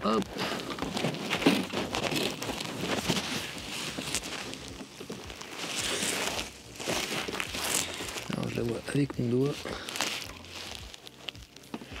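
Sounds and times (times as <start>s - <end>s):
rubbing and scraping on mic: 0.2s - 12.0s.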